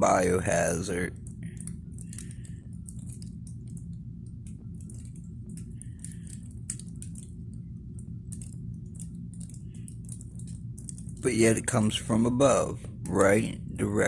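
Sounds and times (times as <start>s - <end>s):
steady low hum: 0.0s - 14.0s
faint crackles and ticks: 0.7s - 14.0s.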